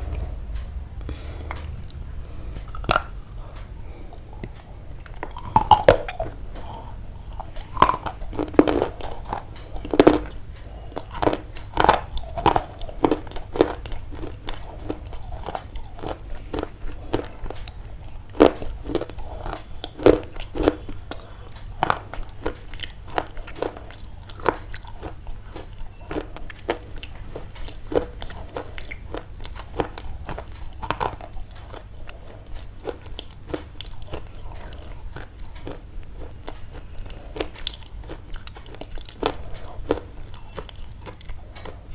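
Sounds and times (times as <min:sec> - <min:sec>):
crisp crunching and chewing: 0:01.1 - 0:41.9.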